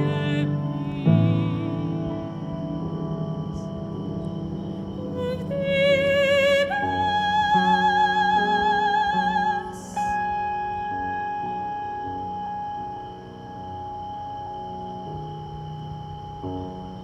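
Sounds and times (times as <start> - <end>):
electronic drone tones: 0.0 - 17.0
soprano singing wordless notes: 0.0 - 17.0.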